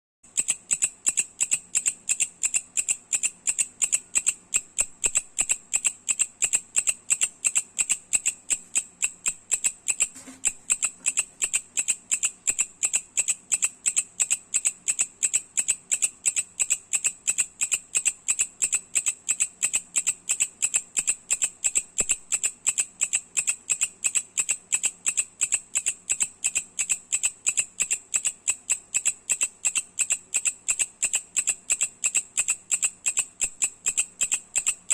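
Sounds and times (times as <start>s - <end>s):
katydid chirping: 0.3s - 34.9s.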